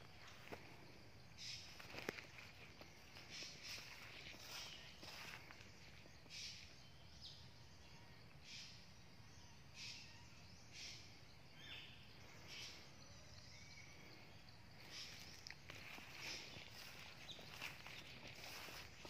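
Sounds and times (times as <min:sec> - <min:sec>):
faint chirps: 0:00.0 - 0:19.0.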